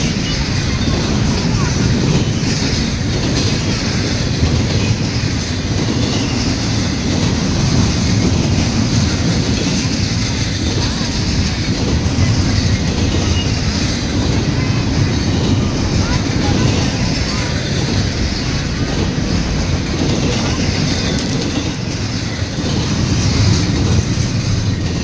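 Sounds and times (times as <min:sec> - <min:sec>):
freight train wheels on rail: 0:00.0 - 0:25.0.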